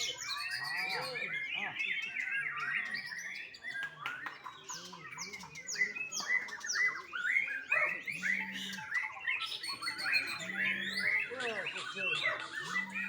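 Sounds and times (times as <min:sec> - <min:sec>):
bird singing whistled notes: 0:00.0 - 0:13.0.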